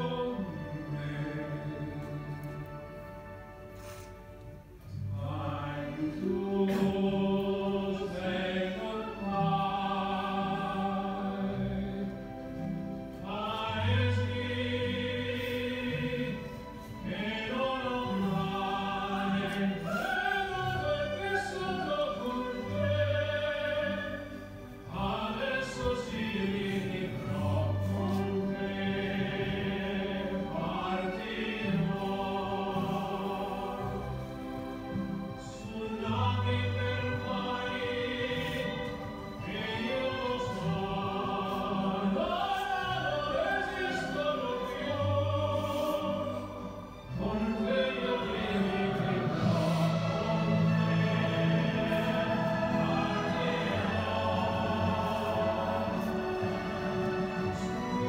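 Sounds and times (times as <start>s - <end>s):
sacred singing: 0.0s - 3.4s, 4.9s - 58.0s.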